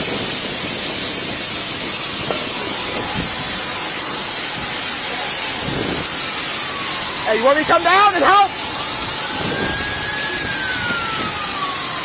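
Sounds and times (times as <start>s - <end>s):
steady loud hiss: 0.0s - 12.0s.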